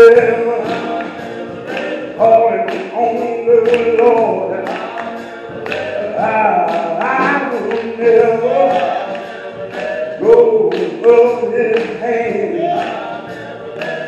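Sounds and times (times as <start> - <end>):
vocal group singing in harmony: 0.0 - 14.0.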